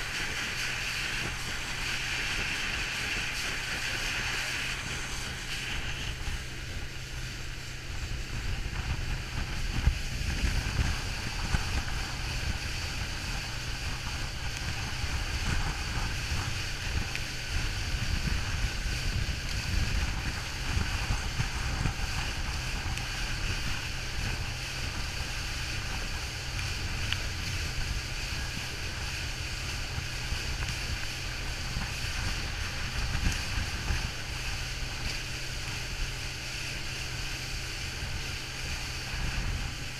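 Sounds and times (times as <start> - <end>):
outboard motor running: 0.0 - 39.9
water rushing along hull: 0.0 - 39.9
wind buffeting microphone: 0.0 - 39.9.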